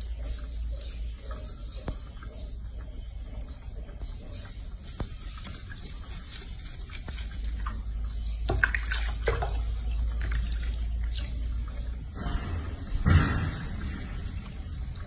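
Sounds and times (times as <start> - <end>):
hands rubbing wet fur: 0.0 - 2.7, 4.4 - 15.0
water sloshing in a sink: 0.0 - 2.9, 3.5 - 15.0
low steady hum: 0.0 - 15.0.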